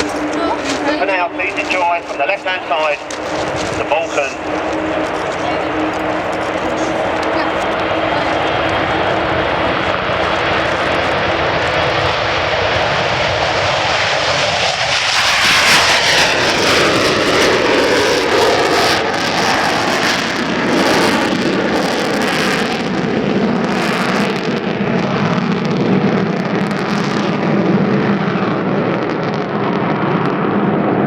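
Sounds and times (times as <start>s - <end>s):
loud jet engine noise: 0.0s - 31.0s.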